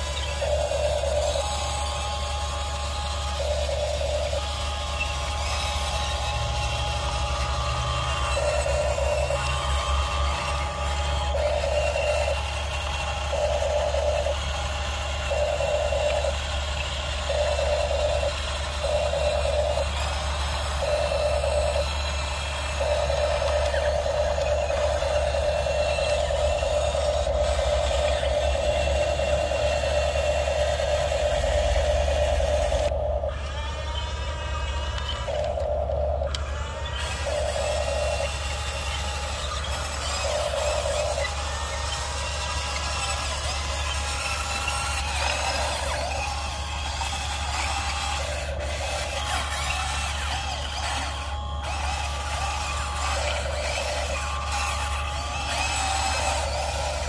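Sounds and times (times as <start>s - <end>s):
steady low hum: 0.0s - 57.0s
toy electric motors whirring: 0.0s - 57.0s.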